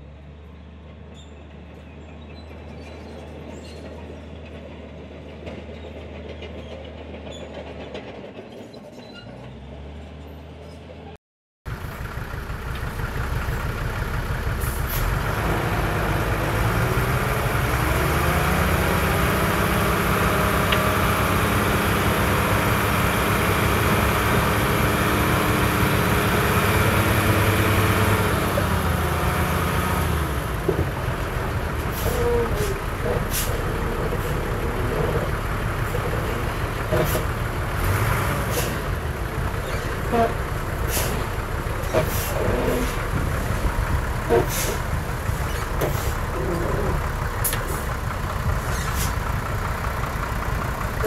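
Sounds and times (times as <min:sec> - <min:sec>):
bulldozer diesel engine: 0:00.0 - 0:51.0.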